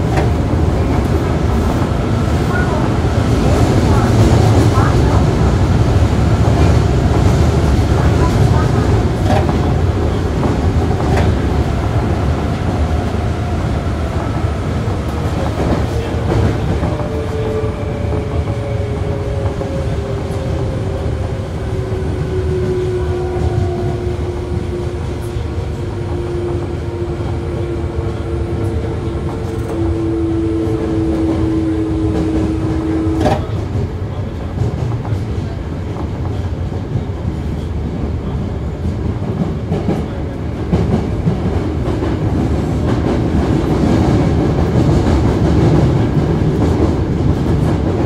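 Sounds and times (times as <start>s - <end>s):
wheels rumbling on rail: 0.0s - 48.0s.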